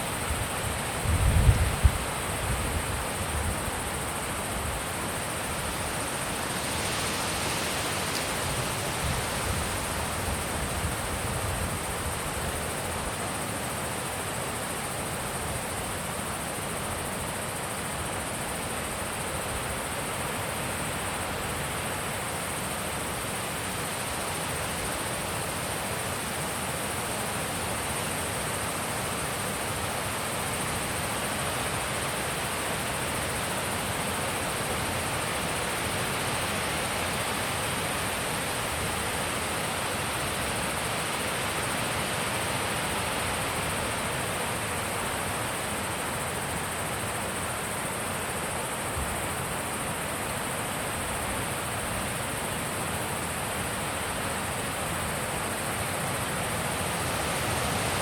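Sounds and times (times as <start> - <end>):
faint high-pitched hiss: 0.0 - 58.0
wind blowing steadily: 0.0 - 58.0.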